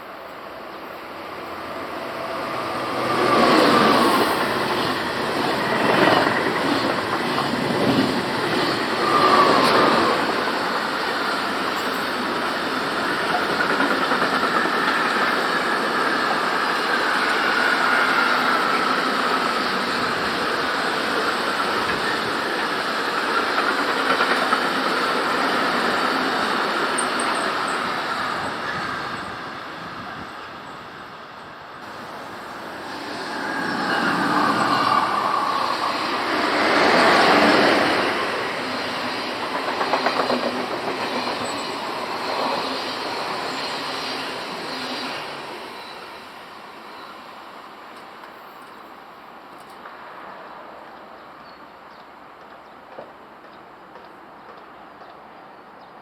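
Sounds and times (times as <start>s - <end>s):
train running past: 0.0s - 55.8s.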